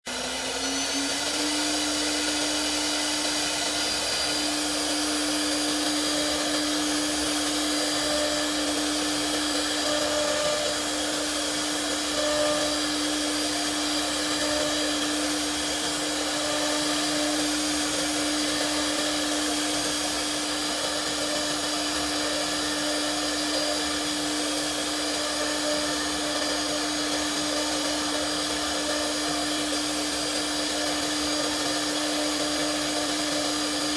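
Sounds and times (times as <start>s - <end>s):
router spindle whine: 0.0s - 33.9s.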